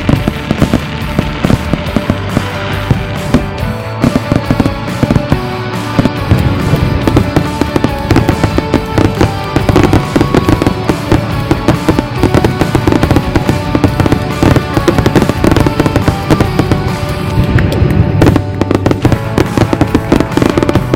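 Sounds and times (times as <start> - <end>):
fireworks bangs and crackles: 0.0 - 20.9
music playing: 0.0 - 20.9.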